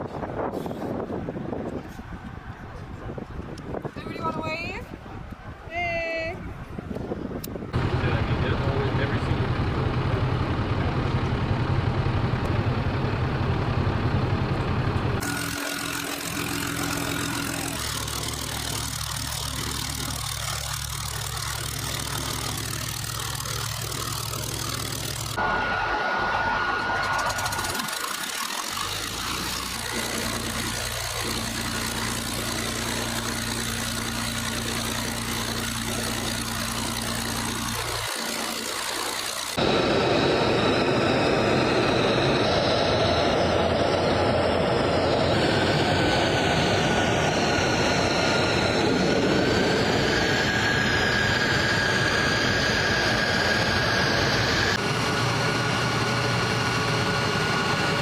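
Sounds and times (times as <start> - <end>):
jet engines running: 0.0 - 58.0
high steady whine: 6.9 - 58.0.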